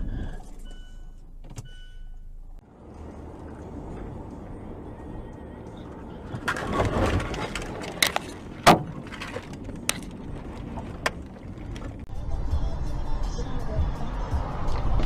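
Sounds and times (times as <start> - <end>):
car road noise: 0.0 - 15.0
rushing rumble: 2.6 - 15.0.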